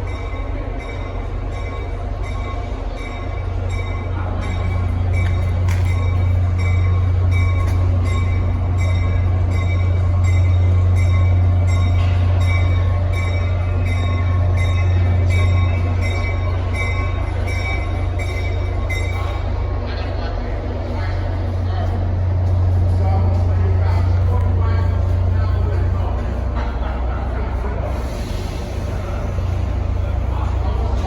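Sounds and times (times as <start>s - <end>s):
locomotive bell ringing: 0.0s - 28.0s
train locomotive drone: 0.0s - 31.0s.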